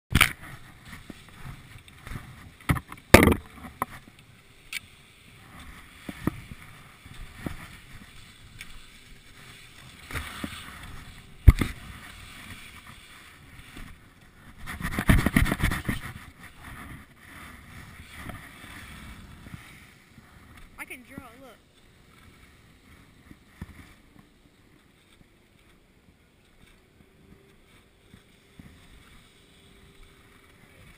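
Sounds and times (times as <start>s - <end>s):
skis scraping over snow: 0.1s - 30.9s.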